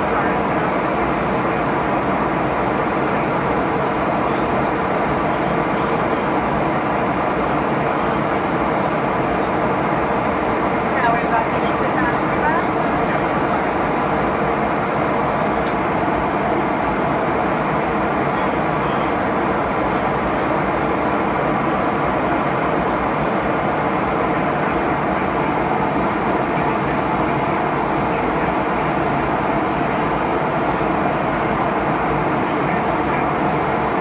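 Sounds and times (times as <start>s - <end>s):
air rushing along fuselage: 0.0s - 34.0s
jet engines humming: 0.0s - 34.0s.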